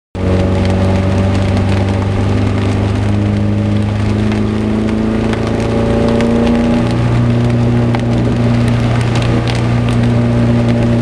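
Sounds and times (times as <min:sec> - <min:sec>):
car engine running: 0:00.2 - 0:11.0
heavy rain hitting car: 0:00.2 - 0:11.0.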